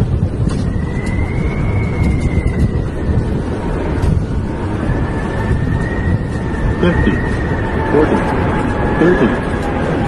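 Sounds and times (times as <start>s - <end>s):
airflow and engine rumble: 0.0s - 10.0s
faint high whine: 0.0s - 10.0s.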